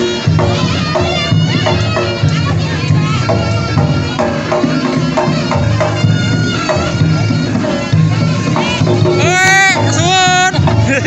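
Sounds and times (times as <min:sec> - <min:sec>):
drums and gongs beat: 0:00.0 - 0:11.0
shawm playing sliding melody: 0:00.0 - 0:11.0.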